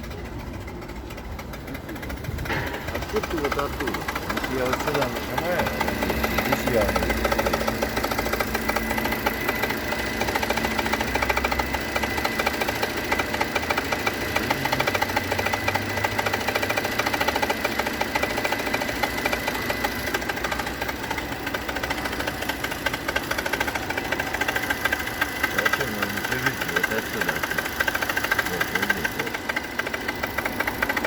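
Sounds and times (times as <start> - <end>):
car engine ticking and whining: 0.0 - 31.0.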